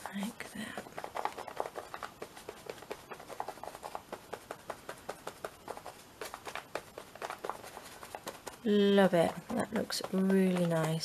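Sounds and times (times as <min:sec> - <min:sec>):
soft taps patting paper: 0:00.0 - 0:11.0.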